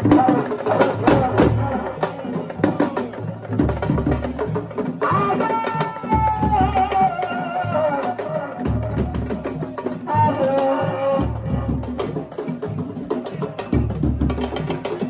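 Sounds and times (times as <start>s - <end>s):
drums and percussion: 0.0s - 15.0s.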